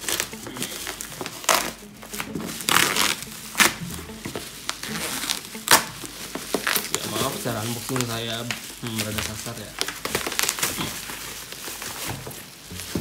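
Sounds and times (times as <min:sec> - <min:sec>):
bubble wrap crackles: 0:00.0 - 0:13.0
bubble wrap crinkling and tearing: 0:00.0 - 0:13.0.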